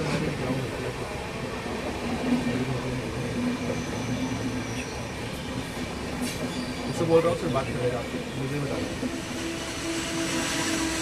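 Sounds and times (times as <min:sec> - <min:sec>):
train running noise from on board: 0:00.0 - 0:11.0.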